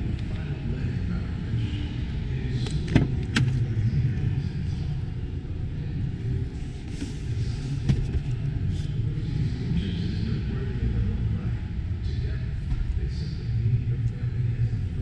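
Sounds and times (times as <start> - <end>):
indistinct crowd rumble: 0.0 - 15.0.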